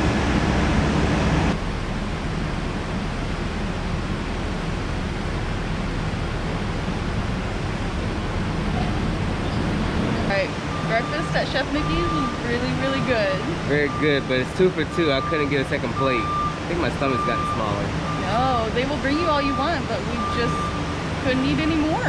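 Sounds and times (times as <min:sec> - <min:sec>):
outdoor air rushing: 0:00.0 - 0:22.0.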